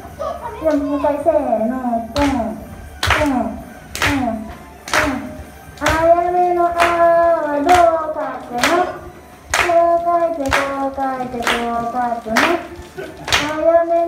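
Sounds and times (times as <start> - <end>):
hand clapping: 2.2 - 13.7.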